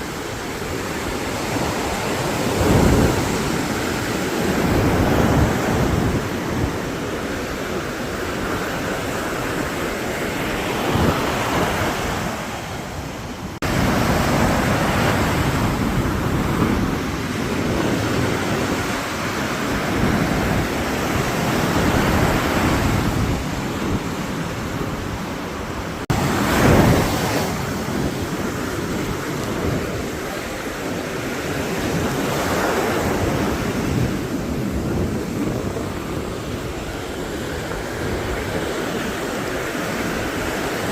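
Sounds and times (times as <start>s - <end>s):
ocean surf breaking on beach: 0.0s - 40.9s
wind on microphone: 0.0s - 40.9s.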